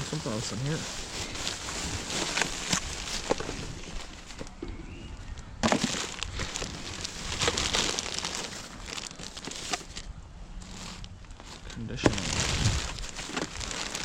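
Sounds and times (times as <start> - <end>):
rubbish rustling: 0.0 - 14.0.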